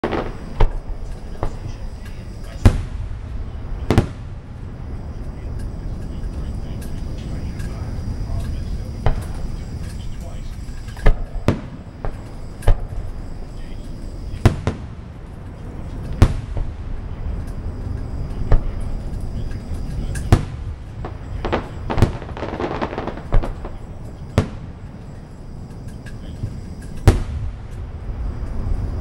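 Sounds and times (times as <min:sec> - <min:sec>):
firework bangs: 0:00.0 - 0:29.0
firework crackling: 0:00.0 - 0:29.0.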